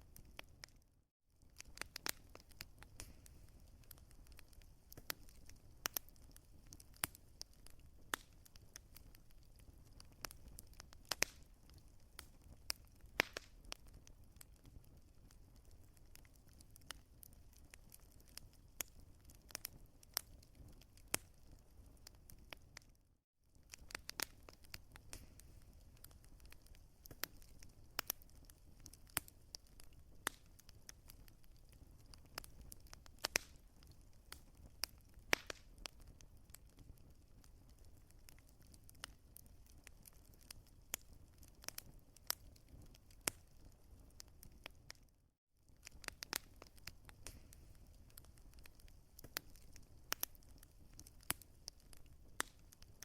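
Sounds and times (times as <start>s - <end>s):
wood fire crackling and popping: 0.0s - 0.8s, 1.4s - 53.0s
faint low rumble of fire: 0.0s - 53.0s.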